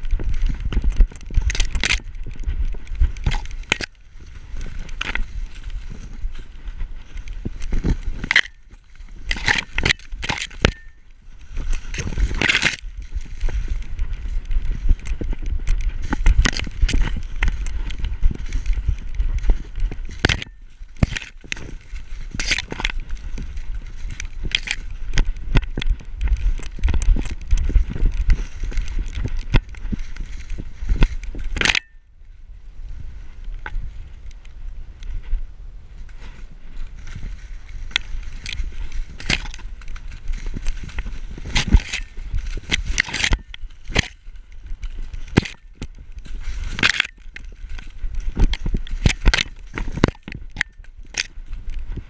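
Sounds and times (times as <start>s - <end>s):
dry cornstalks crackling and rustling: 0.0s - 52.0s
paws crunching in snow: 0.0s - 52.0s.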